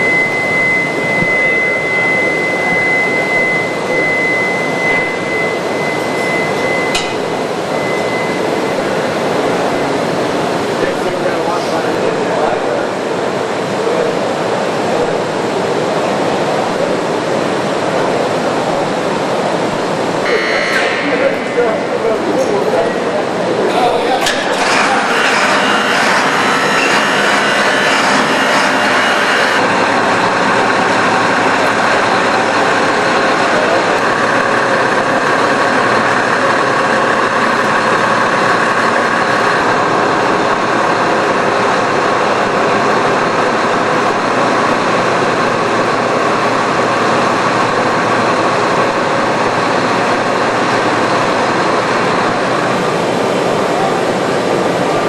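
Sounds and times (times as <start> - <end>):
heavy machinery engine drone: 0.0 - 55.0.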